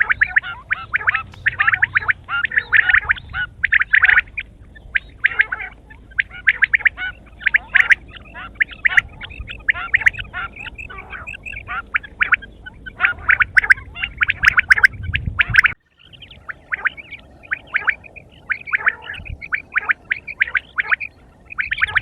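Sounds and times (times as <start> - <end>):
quail calling: 0.0 - 22.0.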